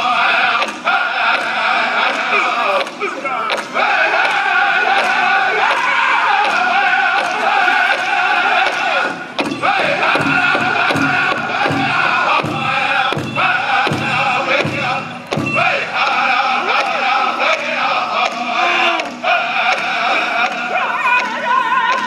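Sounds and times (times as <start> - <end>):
group singing in chorus: 0.0 - 22.0
large drum beat: 0.0 - 22.0.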